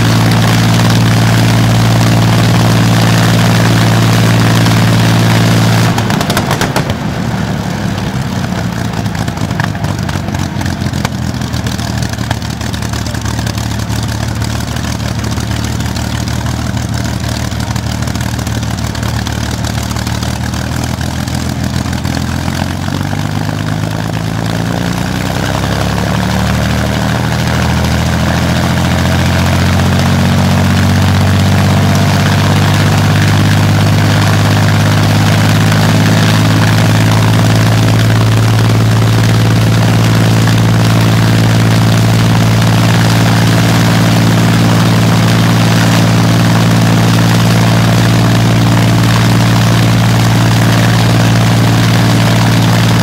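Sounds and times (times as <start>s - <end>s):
aero engine running: 0.0s - 53.0s.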